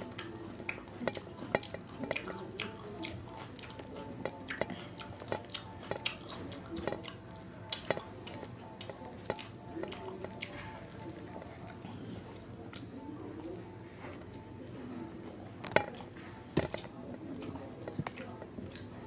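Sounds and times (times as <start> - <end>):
hand squishing food: 0.0 - 18.9.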